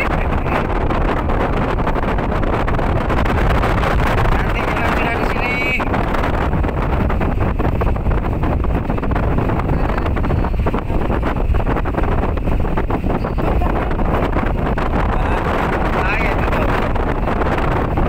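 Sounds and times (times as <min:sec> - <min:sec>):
vehicle rumble on dirt road: 0:00.0 - 0:18.0
wind rushing over microphone: 0:00.0 - 0:18.0.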